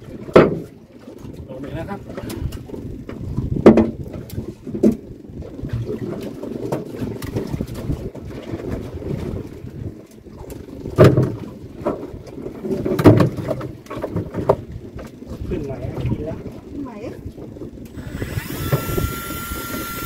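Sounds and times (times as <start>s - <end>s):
small boat rumbling: 0.0s - 20.0s.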